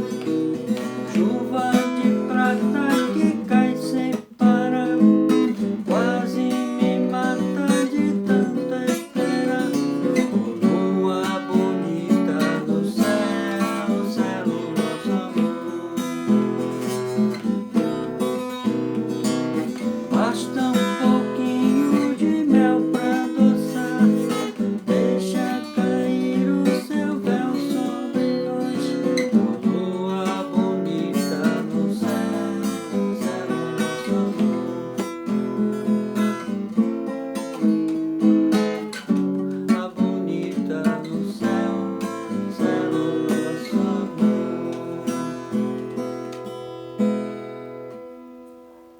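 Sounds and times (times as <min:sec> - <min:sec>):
acoustic guitar strummed and picked: 0:00.0 - 0:48.9.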